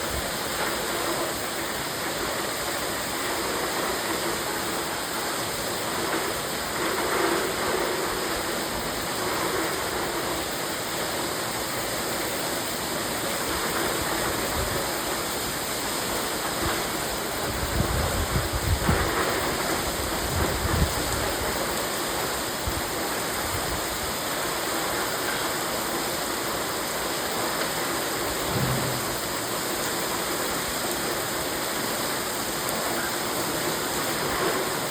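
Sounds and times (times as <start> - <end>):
water pouring from gutter: 0.0 - 34.9.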